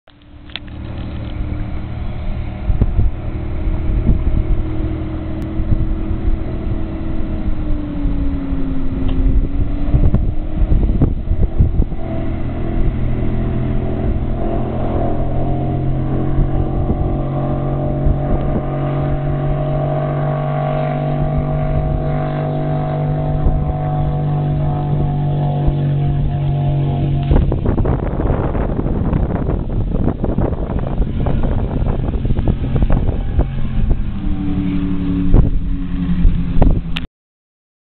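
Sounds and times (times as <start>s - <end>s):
powerboat engine at speed: 0.1s - 37.1s.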